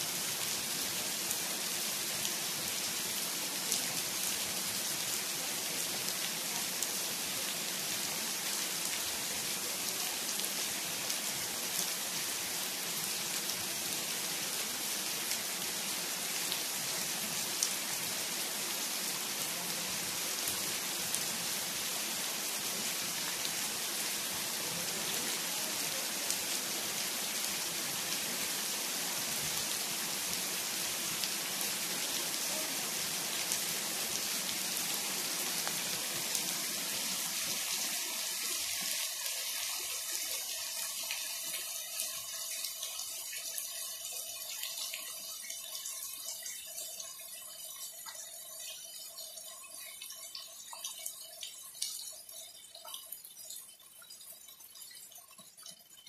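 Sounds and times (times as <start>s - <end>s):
rain on lawn and concrete: 0.0s - 56.0s.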